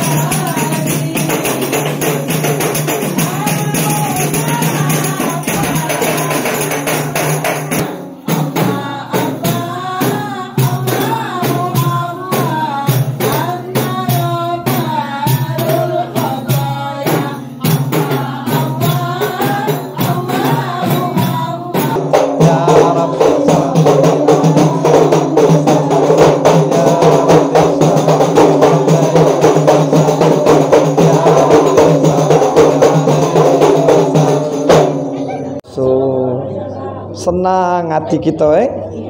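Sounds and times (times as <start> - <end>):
frame drums beating: 0.0 - 35.3
women singing: 0.0 - 37.3.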